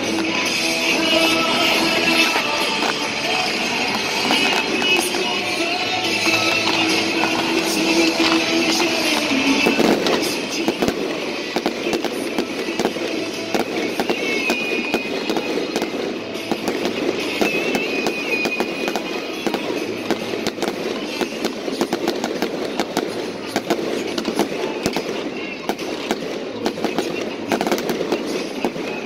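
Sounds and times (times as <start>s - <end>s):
firework whistle: 0.0s - 29.0s
fireworks crackling and banging: 0.0s - 29.0s.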